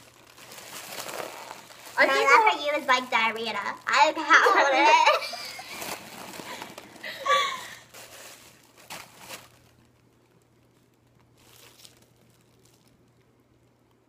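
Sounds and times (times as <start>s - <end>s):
foil balloon crinkling: 0.0s - 14.0s.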